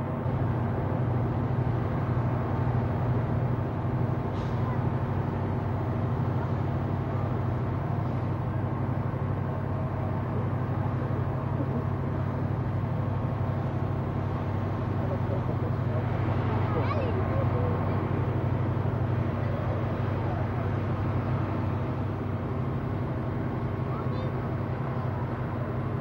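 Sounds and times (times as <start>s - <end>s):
fire engine running at high revs: 0.0s - 26.0s.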